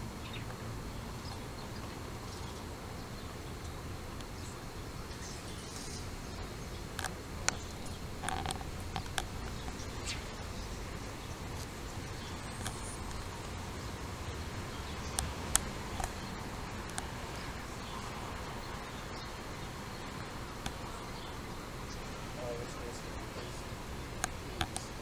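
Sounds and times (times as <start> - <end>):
low outdoor background noise: 0.0 - 25.0.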